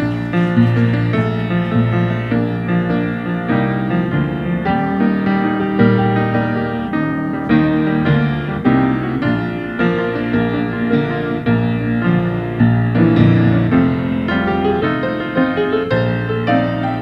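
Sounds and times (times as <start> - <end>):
grand piano playing chords: 0.0 - 17.0.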